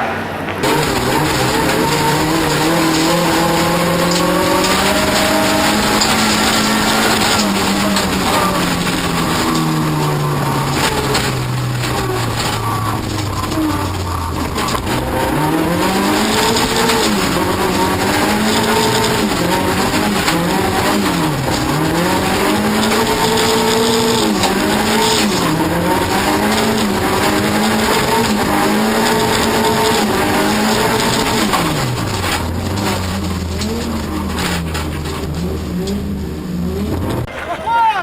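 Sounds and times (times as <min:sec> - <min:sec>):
race car engine revving: 0:00.0 - 0:37.6.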